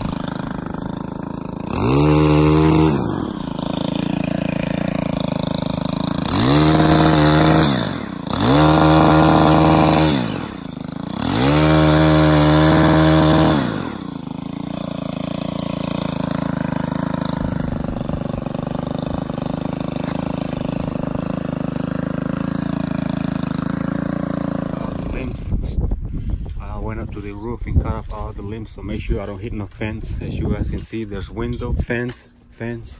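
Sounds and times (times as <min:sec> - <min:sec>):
chainsaw revving and idling: 0:00.0 - 0:27.1.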